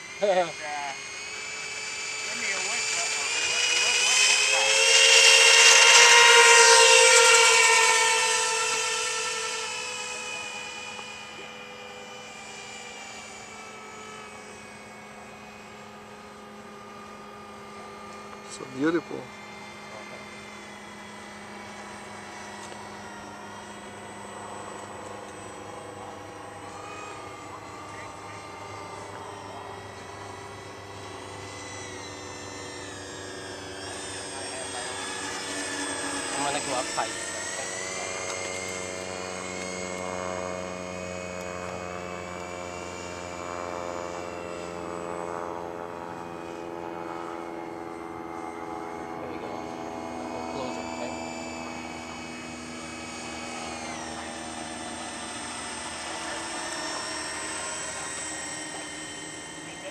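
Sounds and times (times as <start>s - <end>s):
model plane engines whining: 0.0s - 59.9s.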